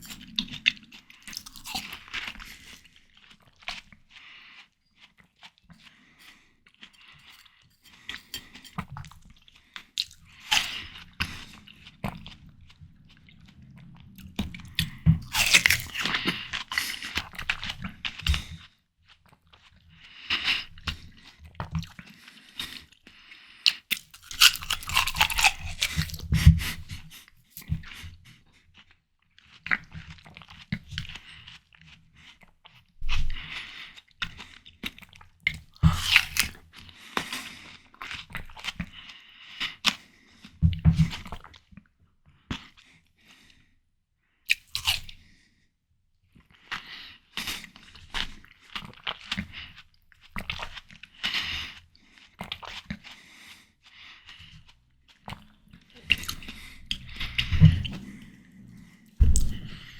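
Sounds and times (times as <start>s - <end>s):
biting and chewing watermelon: 0.0s - 43.5s, 44.5s - 45.4s, 46.4s - 59.9s.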